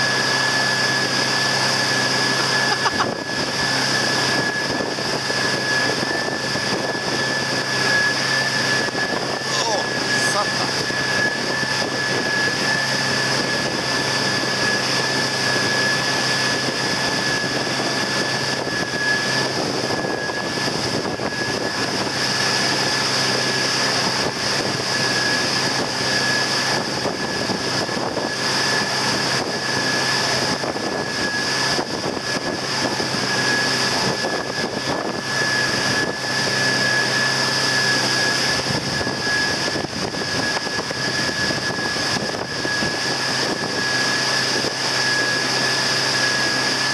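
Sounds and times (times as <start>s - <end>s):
churning wake rushing: 0.0s - 46.9s
motorboat engine running: 0.0s - 46.9s.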